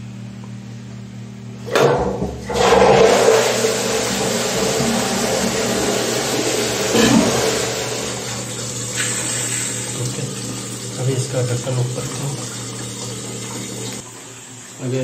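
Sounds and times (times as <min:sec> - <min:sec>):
cistern flushing toilet: 0:01.6 - 0:15.0.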